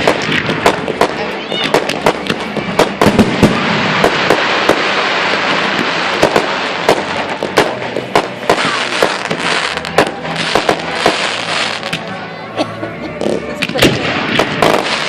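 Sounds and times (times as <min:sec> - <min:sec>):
fireworks bangs: 0:00.0 - 0:12.2, 0:13.1 - 0:15.0
fireworks crackling hiss: 0:00.0 - 0:12.3, 0:13.1 - 0:15.0.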